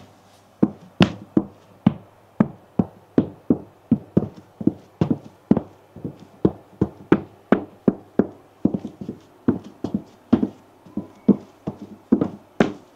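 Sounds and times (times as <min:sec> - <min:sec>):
shoes clacking on hard surface: 0:00.0 - 0:12.9.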